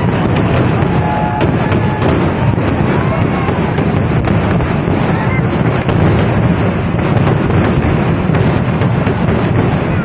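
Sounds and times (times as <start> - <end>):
fireworks sharp bangs: 0.0 - 10.0
rumble of explosions: 0.0 - 10.0.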